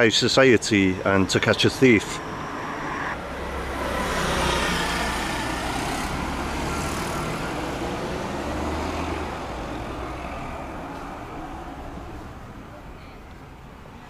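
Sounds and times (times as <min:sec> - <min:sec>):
car driving past: 0:01.3 - 0:13.2.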